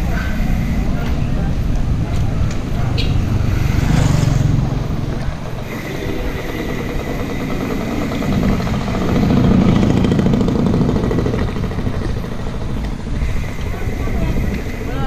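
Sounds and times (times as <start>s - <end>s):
road noise on wet pavement: 0.0s - 15.0s
wind buffeting microphone: 0.0s - 15.0s.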